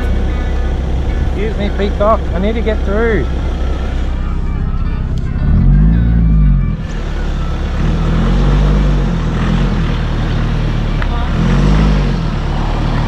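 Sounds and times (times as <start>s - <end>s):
van engine at low speed: 0.0s - 13.0s.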